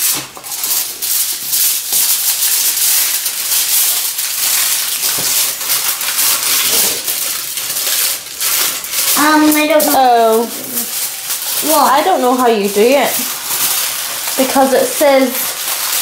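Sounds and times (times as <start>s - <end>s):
foil crinkling: 0.0s - 16.0s.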